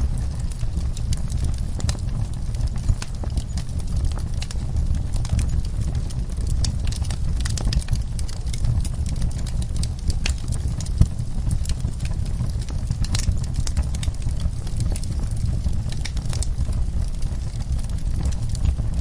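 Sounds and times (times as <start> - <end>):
fire low rumble: 0.0 - 19.0
wood fire crackling and popping: 0.0 - 19.0.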